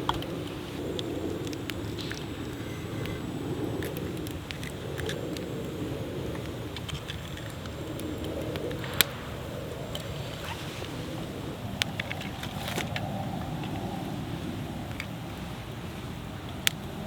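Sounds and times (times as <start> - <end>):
bonfire flames rushing: 0.0 - 17.0
fire crackling and popping: 0.0 - 17.0.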